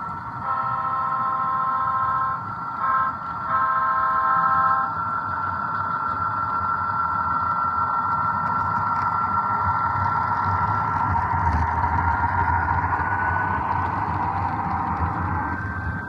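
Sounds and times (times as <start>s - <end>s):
diesel engine sound effect: 0.0s - 16.0s
steady whine: 0.0s - 16.0s
wheels rumbling on track: 0.0s - 16.0s.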